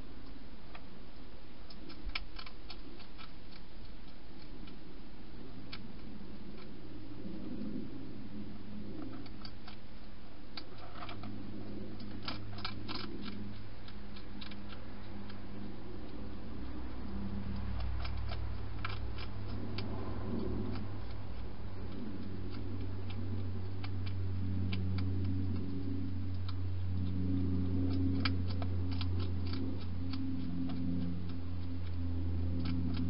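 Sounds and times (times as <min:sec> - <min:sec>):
hedgehog crunching dry food: 0:00.0 - 0:33.0
steady low hum: 0:00.0 - 0:33.0.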